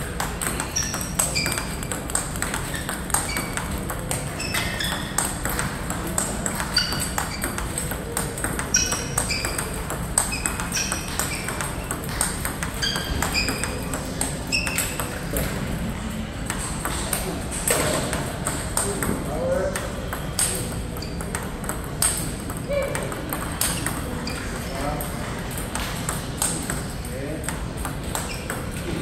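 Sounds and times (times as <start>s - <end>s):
table tennis ball clicks: 0.1s - 15.5s, 16.5s - 24.4s.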